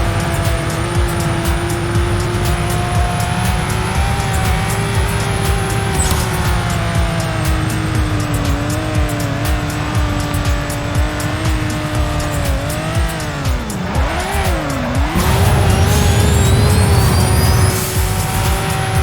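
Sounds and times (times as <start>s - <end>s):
car engine revving: 0.0s - 19.0s
music with steady beat: 0.0s - 19.0s.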